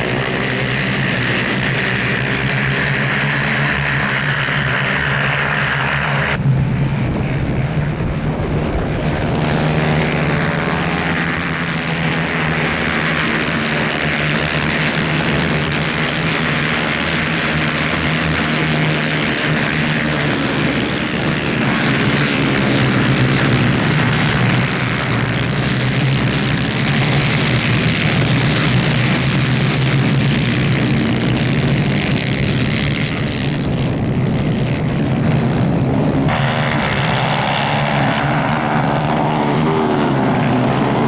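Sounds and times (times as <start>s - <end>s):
racing kart engines buzzing: 0.0s - 41.0s.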